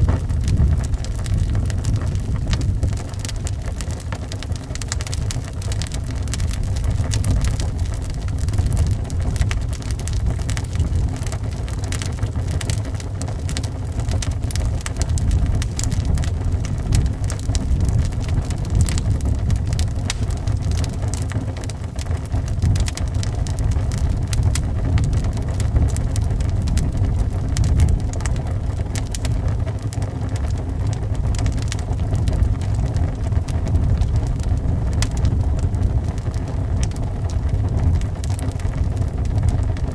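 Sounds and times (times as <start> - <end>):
low rumble of wind: 0.0 - 39.9
wood fire crackling: 0.0 - 39.9.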